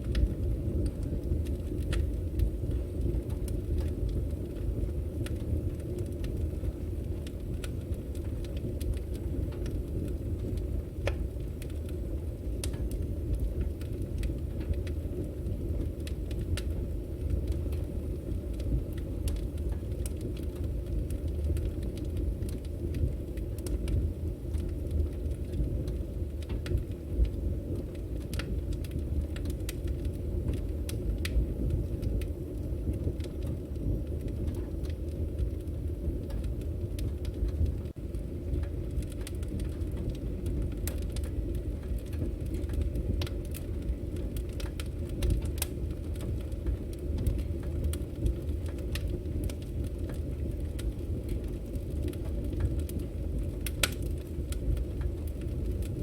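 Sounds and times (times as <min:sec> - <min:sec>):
fire low roar: 0:00.0 - 0:56.0
firewood crackling and popping: 0:00.0 - 0:56.0.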